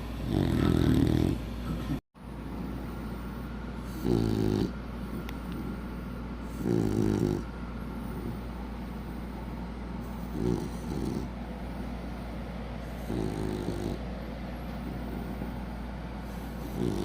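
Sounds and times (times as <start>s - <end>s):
dog snoring: 0.0s - 9.4s, 10.0s - 11.4s, 12.8s - 14.1s, 14.7s - 15.6s, 16.2s - 17.0s
steady low hum: 0.0s - 17.0s.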